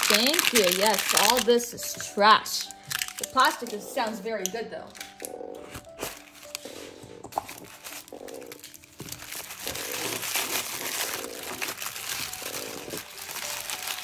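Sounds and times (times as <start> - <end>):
plastic packaging crinkling: 0.0 - 3.9, 5.0 - 14.0.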